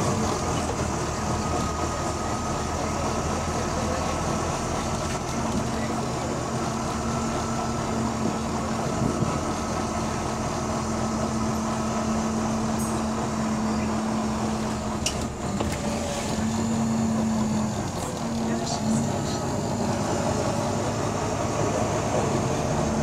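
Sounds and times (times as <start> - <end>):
diesel bus engine idling: 0.0 - 23.0.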